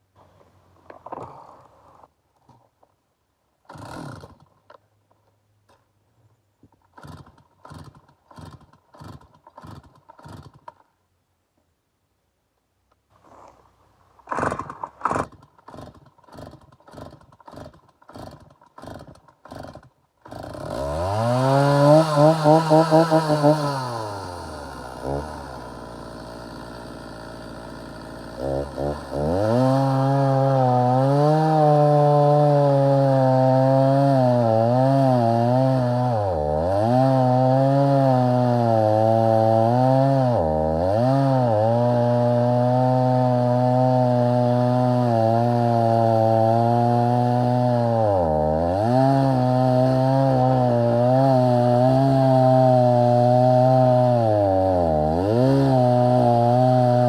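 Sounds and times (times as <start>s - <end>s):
chainsaw cutting wood: 0.9s - 1.7s, 3.6s - 4.8s, 6.7s - 10.9s, 13.2s - 57.0s.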